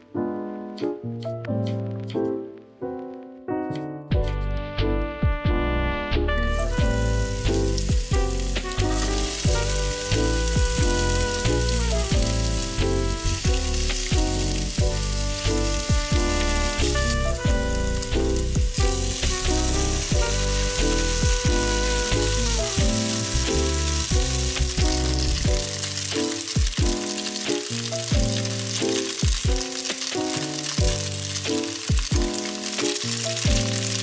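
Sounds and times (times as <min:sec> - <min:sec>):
background music: 0:00.0 - 0:34.0
food sizzling in frying pan: 0:06.5 - 0:34.0.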